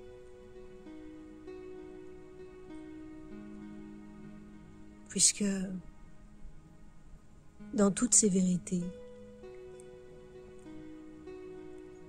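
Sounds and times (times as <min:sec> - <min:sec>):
soft slow instrumental music: 0:00.0 - 0:12.0.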